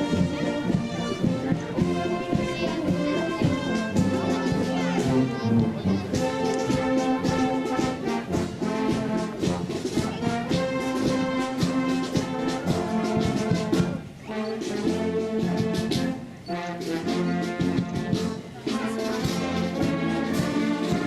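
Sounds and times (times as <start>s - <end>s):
brass band playing chords: 0.0s - 21.0s
drum beats: 0.0s - 21.0s.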